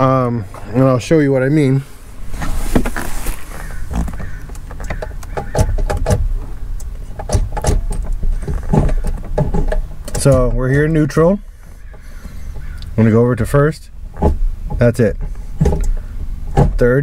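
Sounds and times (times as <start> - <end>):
gear shifter clicks and clunks: 2.7 - 17.0.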